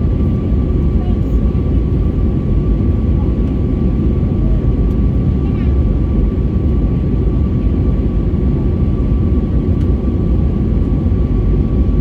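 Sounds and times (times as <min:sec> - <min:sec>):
airliner engines droning in cabin: 0:00.0 - 0:12.0.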